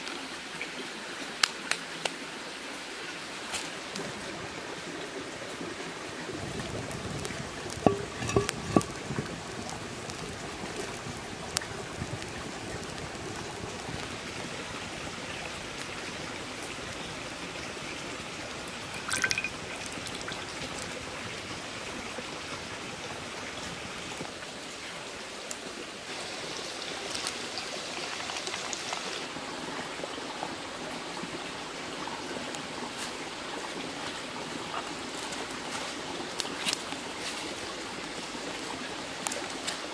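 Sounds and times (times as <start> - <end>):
trickling water-like rush: 0.0 - 39.9
wood fire crackling: 3.5 - 29.3, 32.0 - 39.9.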